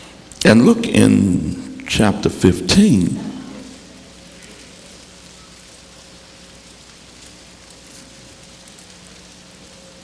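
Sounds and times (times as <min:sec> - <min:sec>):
faint steady hiss: 0:00.0 - 0:10.0
low even hum: 0:00.0 - 0:10.0.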